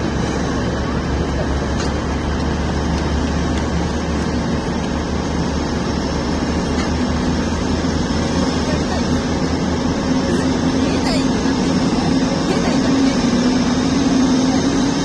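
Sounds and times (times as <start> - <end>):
distant machinery and vehicles rumble: 0.0 - 15.0.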